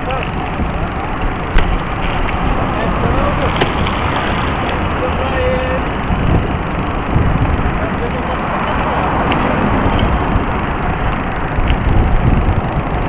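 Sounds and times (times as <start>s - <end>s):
bicycle rolling on pavement: 0.0s - 13.0s.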